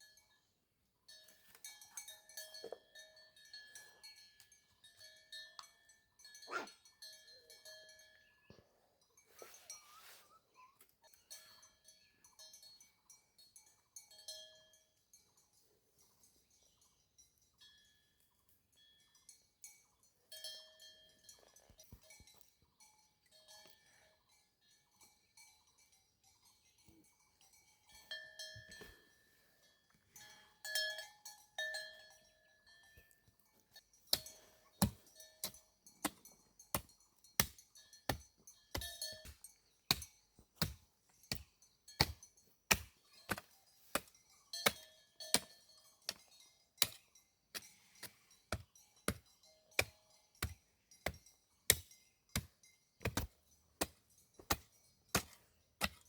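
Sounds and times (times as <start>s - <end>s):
faint ringing bell-like clanks: 0.0s - 10.0s, 11.0s - 40.3s, 41.1s - 56.0s.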